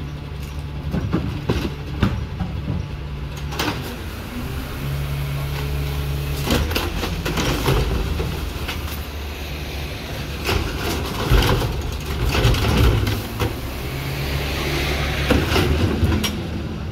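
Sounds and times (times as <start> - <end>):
garbage truck diesel engine running: 0.0 - 16.9.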